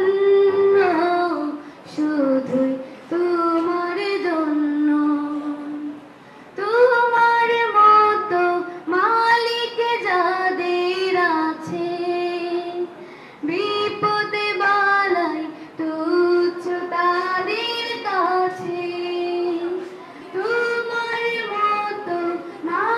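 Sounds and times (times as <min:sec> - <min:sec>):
girl singing into microphone: 0:00.0 - 0:22.9.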